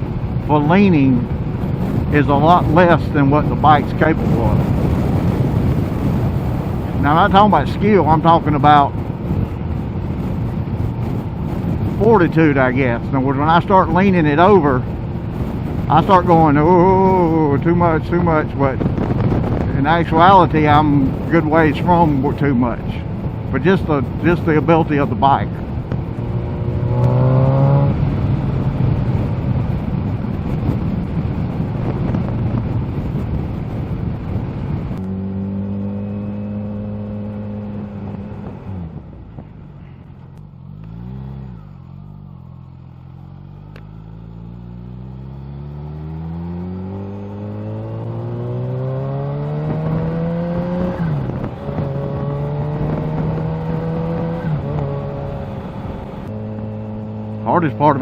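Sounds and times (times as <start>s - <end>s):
wind rushing: 0.0s - 40.1s, 41.0s - 58.0s
motorcycle engine accelerating: 0.0s - 58.0s.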